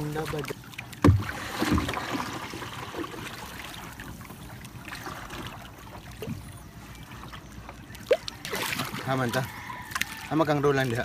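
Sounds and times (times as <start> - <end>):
paddle splashing in water: 0.0 - 11.0
water swishing along hull: 0.0 - 11.0.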